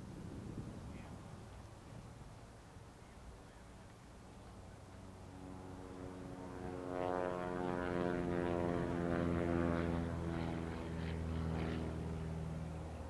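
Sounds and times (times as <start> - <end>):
propeller airplane engine passing: 0.0 - 13.0.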